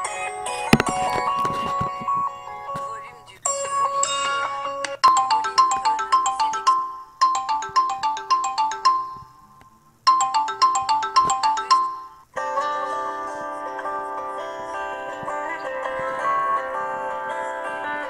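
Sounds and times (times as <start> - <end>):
phone ringtone melody: 0.0 - 18.0.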